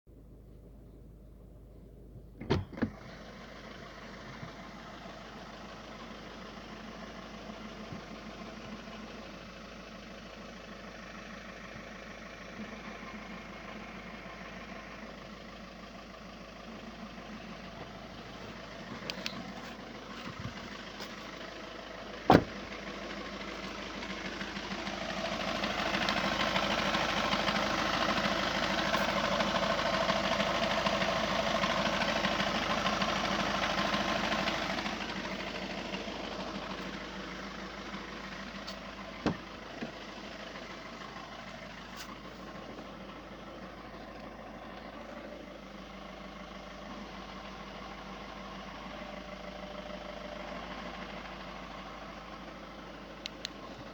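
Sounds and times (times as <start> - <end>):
diesel engine idling: 0.1 - 53.9.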